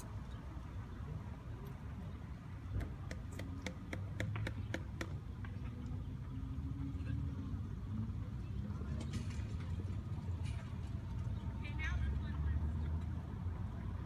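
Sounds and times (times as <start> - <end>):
faint low engine hum: 0.0 - 14.0
traffic rumble: 0.0 - 14.0.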